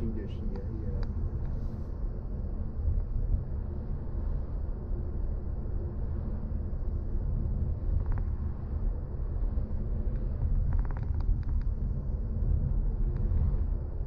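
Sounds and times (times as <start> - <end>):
car road and tyre rumble: 0.0 - 14.0.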